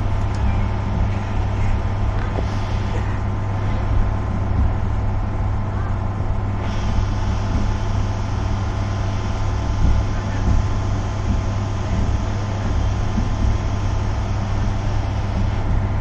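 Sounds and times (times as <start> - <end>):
passenger train running hum: 0.0 - 16.0.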